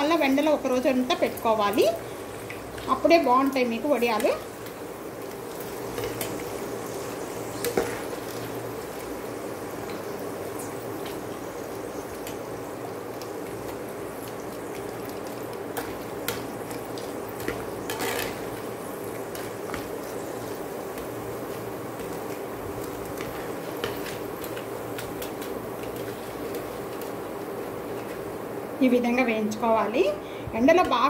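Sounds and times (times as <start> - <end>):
deep-frying bubbling sizzle: 0.0 - 31.0.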